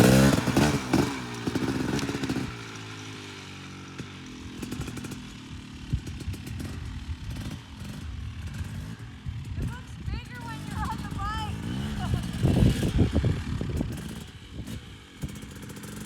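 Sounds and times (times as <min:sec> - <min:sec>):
two-stroke dirt bike revving: 0:00.0 - 0:16.0.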